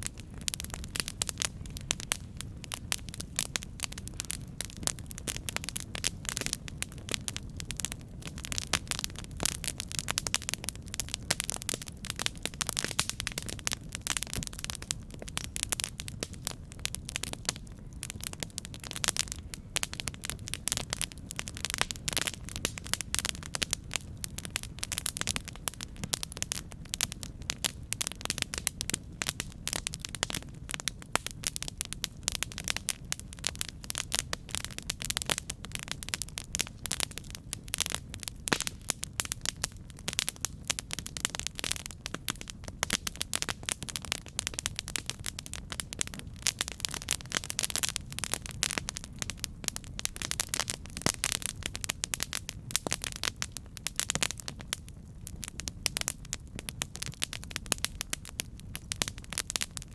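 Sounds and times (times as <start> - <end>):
campfire crackling: 0.0 - 59.9
low steady fire rumble: 0.0 - 59.9.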